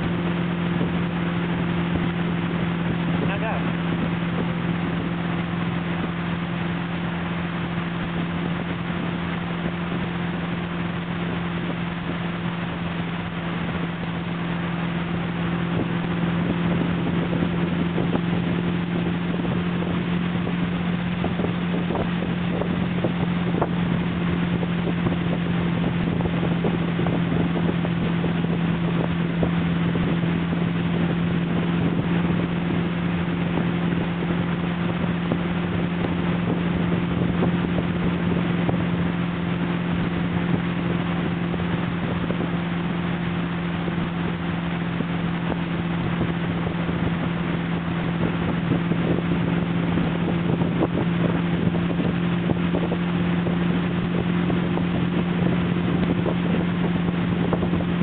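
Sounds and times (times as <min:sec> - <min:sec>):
motorboat engine droning: 0:00.0 - 0:58.0
water noise: 0:00.0 - 0:58.0
wind on microphone: 0:00.0 - 0:58.0.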